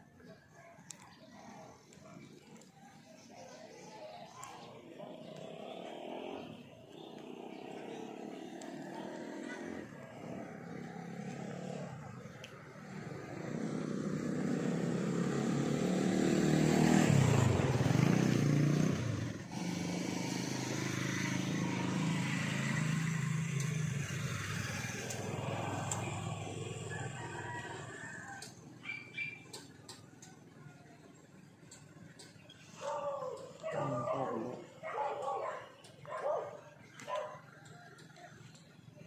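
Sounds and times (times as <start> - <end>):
motorcycle passing by: 0.0 - 39.0.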